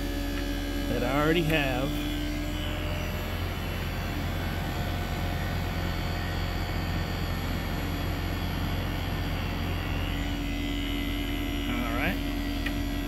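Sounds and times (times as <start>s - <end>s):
condenser fan rushing: 0.0s - 13.0s
low even hum: 0.0s - 13.0s.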